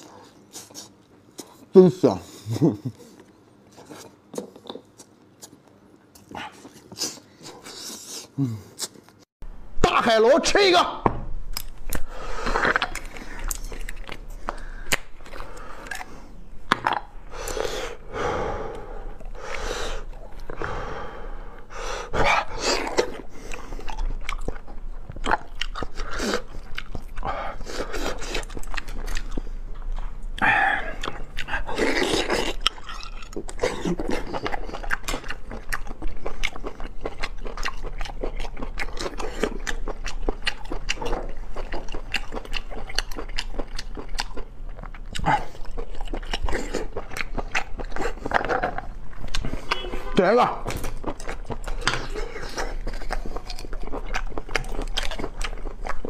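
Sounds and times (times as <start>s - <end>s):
man chewing with wet mouth sounds: 0.0s - 9.3s, 11.5s - 56.0s.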